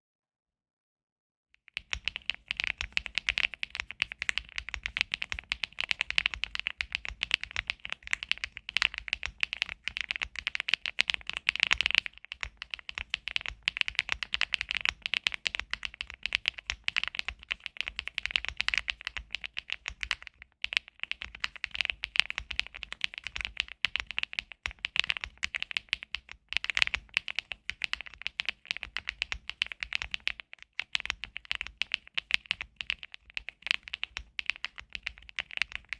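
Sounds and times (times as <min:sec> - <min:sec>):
mechanical keyboard typing: 0:01.8 - 0:35.9.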